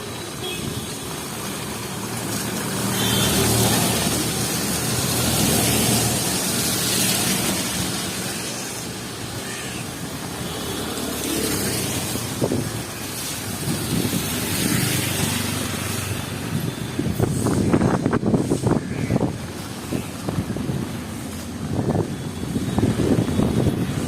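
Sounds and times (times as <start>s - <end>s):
heavy rain hissing on street: 0.0s - 24.0s.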